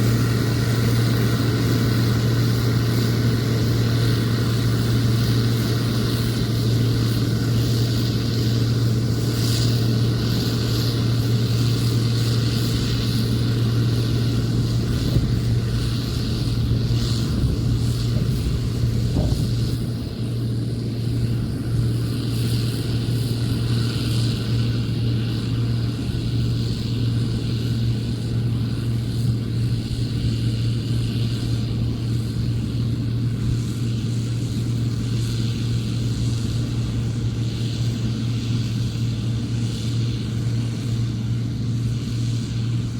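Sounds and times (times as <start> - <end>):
combine harvester engine hum: 0.0 - 42.9.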